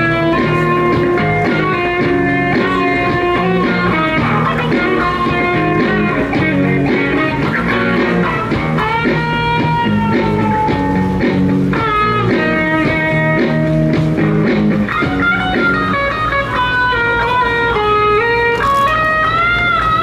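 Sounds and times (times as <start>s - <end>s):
electric guitar music: 0.0s - 20.0s.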